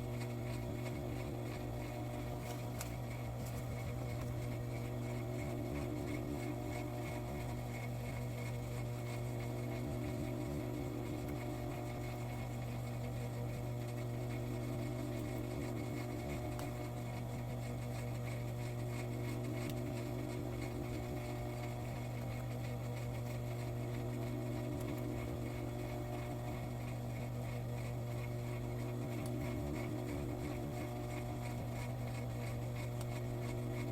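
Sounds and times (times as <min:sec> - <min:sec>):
sewing machine motor humming: 0:00.0 - 0:33.9.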